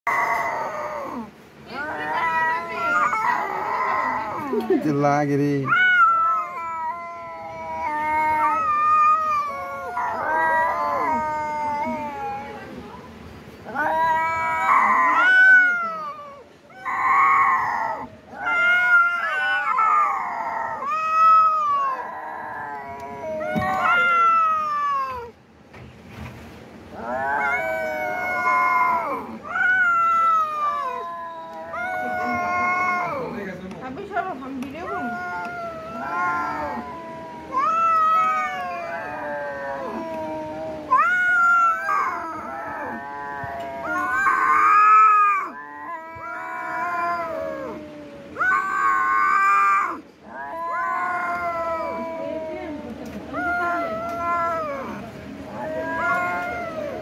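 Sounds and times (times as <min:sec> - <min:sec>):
cat yowling: 0:00.1 - 0:12.9, 0:13.6 - 0:25.4, 0:26.9 - 0:57.0.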